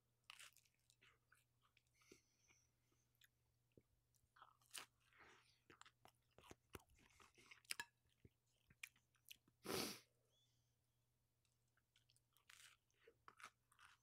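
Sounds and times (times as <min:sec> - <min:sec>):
chewing crunchy pizza: 0:00.2 - 0:09.6, 0:11.4 - 0:14.0.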